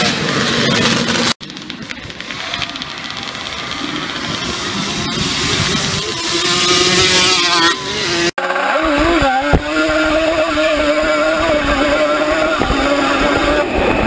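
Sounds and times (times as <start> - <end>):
atv engines at full throttle: 0.0 - 14.0.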